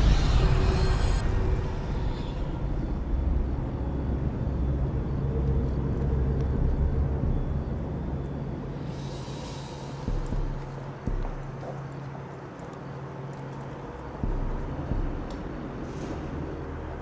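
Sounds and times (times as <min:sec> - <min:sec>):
distant traffic: 0:00.0 - 0:17.0.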